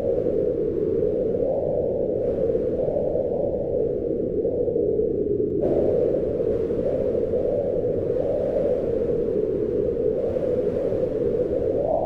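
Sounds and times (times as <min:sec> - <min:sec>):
howling wind: 0:00.0 - 0:12.0.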